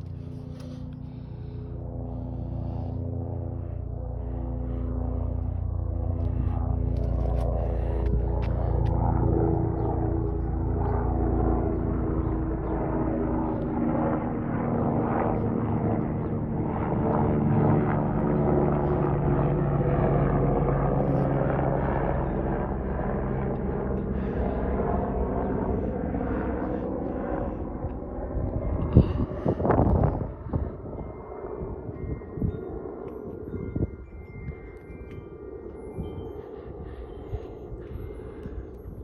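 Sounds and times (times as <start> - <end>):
helicopter drone: 0.0 - 39.0.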